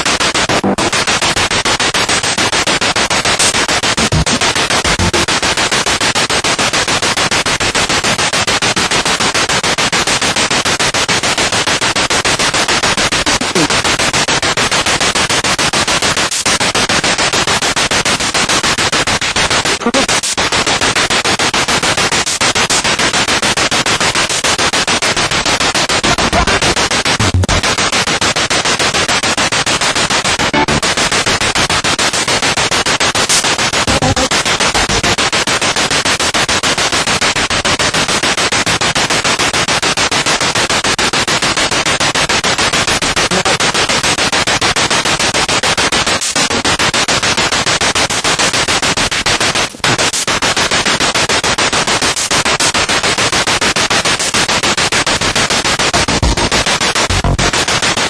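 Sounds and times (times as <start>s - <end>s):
radio static pulsing: 0.0s - 39.1s, 40.3s - 58.0s.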